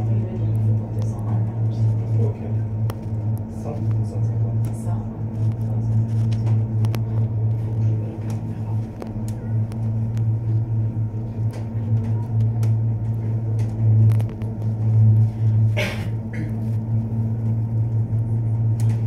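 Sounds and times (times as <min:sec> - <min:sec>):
gondola cabin hum: 0:00.0 - 0:19.0.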